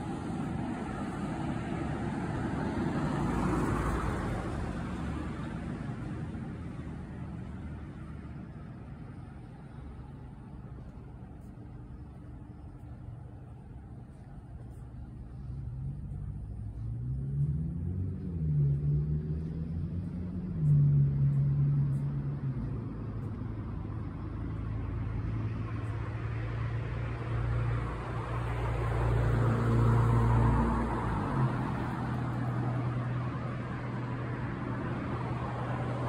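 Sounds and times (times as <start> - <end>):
road noise: 0.0 - 36.0
vehicle engine hum: 0.0 - 36.0.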